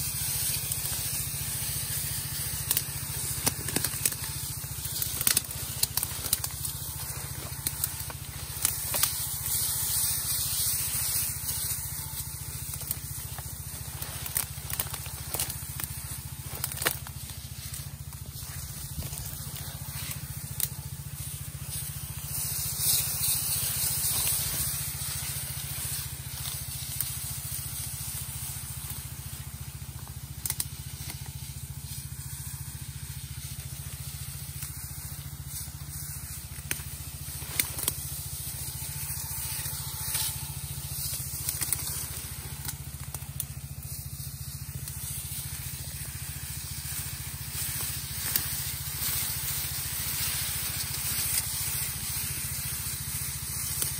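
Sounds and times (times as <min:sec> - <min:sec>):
hiss of spray: 0:00.0 - 0:53.9
small pump engine humming: 0:00.0 - 0:53.9
vegetation crackling and rustling: 0:00.0 - 0:53.9.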